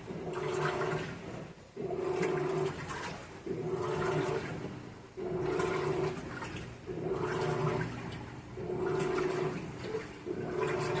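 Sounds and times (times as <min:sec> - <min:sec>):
washing machine motor humming: 0:00.0 - 0:11.0
water sloshing in washing machine: 0:00.0 - 0:11.0.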